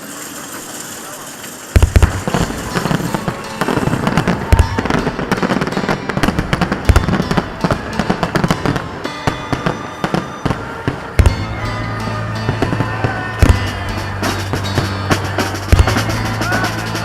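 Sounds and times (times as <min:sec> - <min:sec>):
firecrackers crackling bangs: 0:00.0 - 0:17.0
heavy firework booms: 0:01.8 - 0:11.8, 0:12.5 - 0:16.6.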